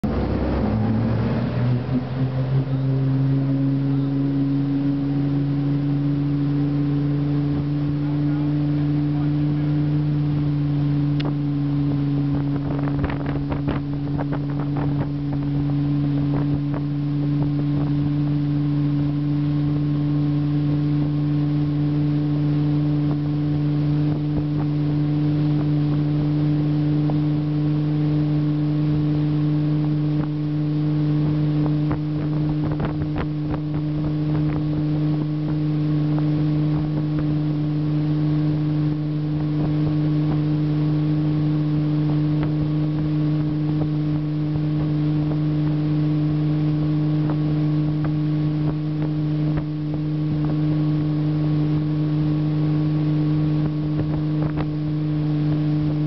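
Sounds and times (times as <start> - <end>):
boat engine running: 0.0 - 56.0
water and wind noise: 0.0 - 56.0.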